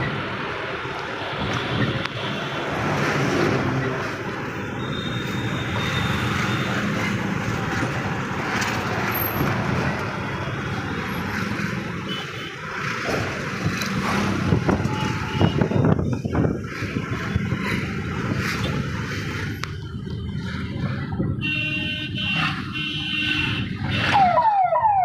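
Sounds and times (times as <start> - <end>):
outdoor noise: 0.0 - 25.0.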